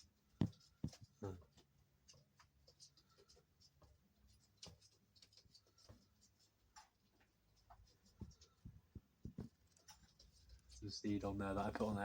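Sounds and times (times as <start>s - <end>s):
faint ticks and taps: 0.0s - 10.8s.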